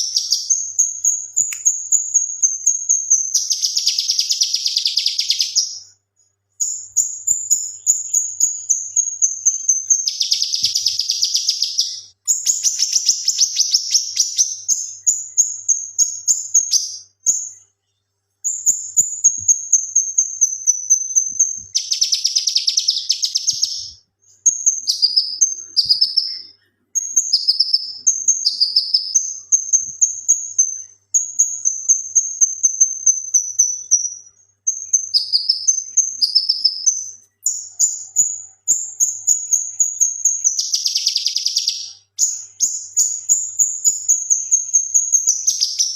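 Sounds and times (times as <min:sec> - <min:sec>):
bird chirping and whistling: 0:00.0 - 0:05.9, 0:06.6 - 0:17.5, 0:18.5 - 0:45.9.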